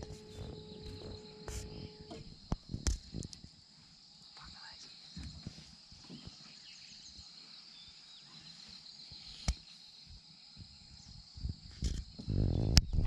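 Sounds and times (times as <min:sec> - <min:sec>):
faint chirps: 0:00.0 - 0:13.0
insect drone: 0:00.0 - 0:13.0.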